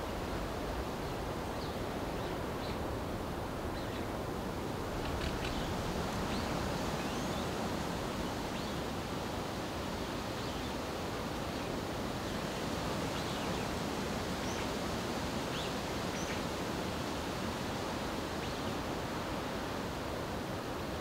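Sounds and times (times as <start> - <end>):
wind rushing through trees: 0.0 - 21.0.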